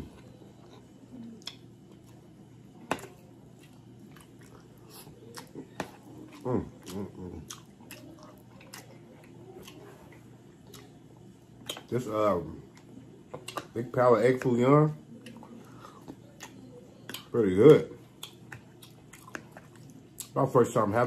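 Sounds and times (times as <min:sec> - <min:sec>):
person chewing food: 0:00.0 - 0:20.4.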